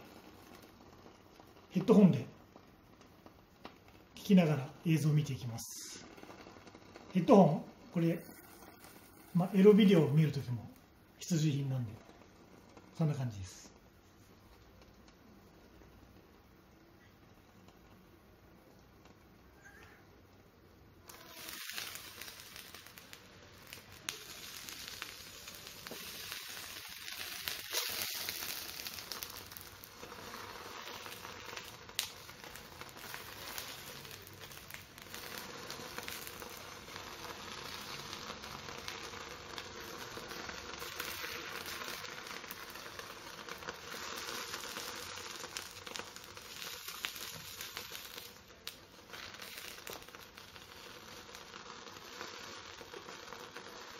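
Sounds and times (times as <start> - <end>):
meat sizzling on hot plate: 0.0 - 16.5, 20.8 - 53.9.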